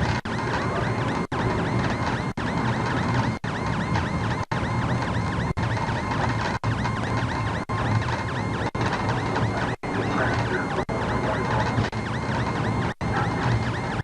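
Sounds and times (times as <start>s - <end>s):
emergency siren yelping: 0.0s - 14.0s.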